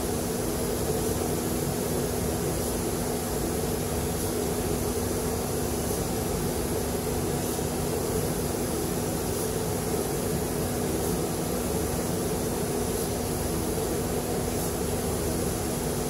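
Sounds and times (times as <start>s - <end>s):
spray gun hissing: 0.0s - 16.0s.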